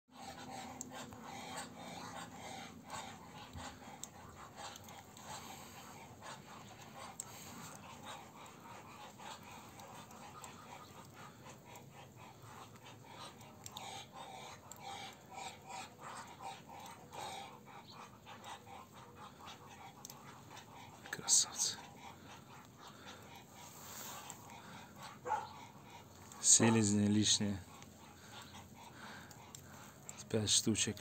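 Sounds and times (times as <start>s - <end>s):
ducks breathy hissing: 0.1s - 30.9s.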